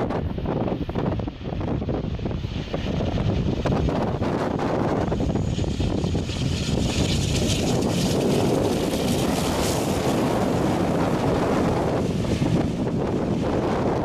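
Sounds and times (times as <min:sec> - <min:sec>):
turboprop plane passing: 0:00.0 - 0:14.0
wind buffeting microphone: 0:00.0 - 0:14.0.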